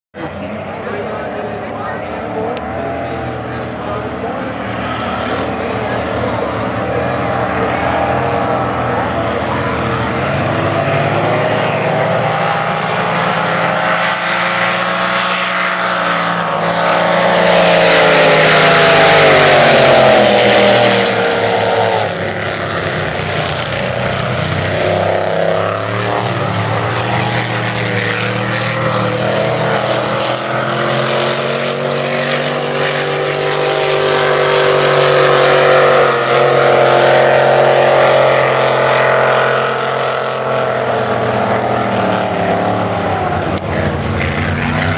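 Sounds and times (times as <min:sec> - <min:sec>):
race boat engines passing: 0:00.2 - 0:44.9.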